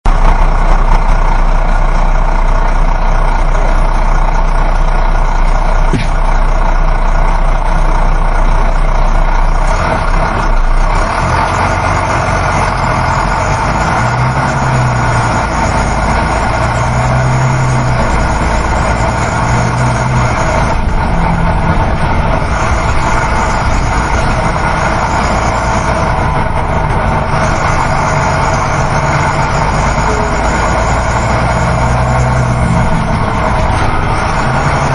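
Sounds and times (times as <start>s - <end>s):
bus engine drone: 0.0s - 34.9s
road and wind noise: 0.1s - 34.9s.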